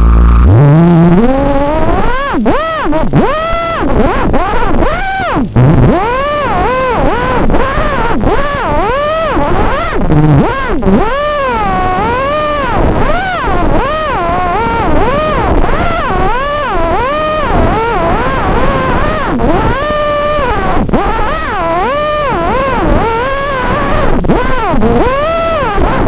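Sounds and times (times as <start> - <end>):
drone motor whine: 0.0 - 26.0.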